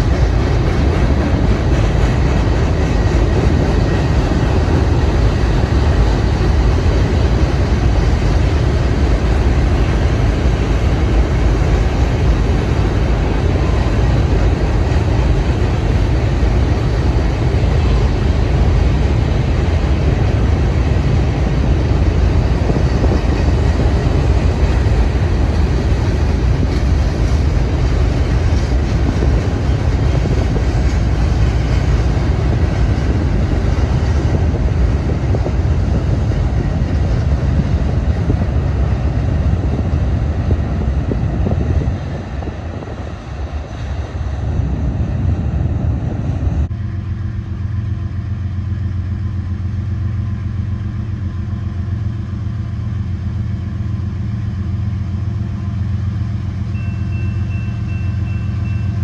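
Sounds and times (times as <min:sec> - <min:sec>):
train wheels rumbling on bridge: 0:00.0 - 0:59.0.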